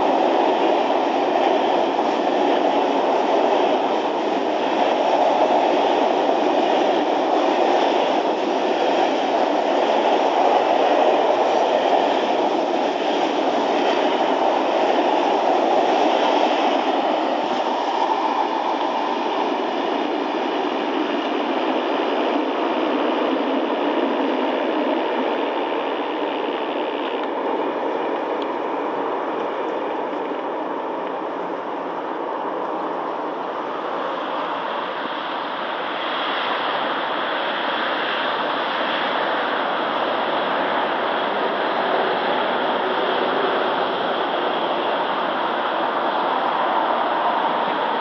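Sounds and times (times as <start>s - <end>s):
trains rushing on the line: 0.0s - 48.0s.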